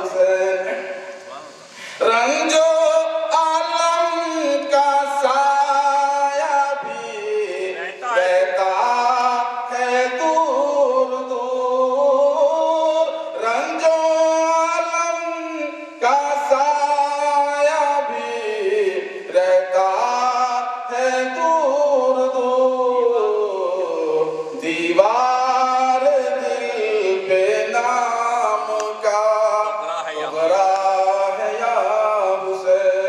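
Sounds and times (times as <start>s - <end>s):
man singing into microphone: 0.0s - 1.2s, 2.0s - 33.0s.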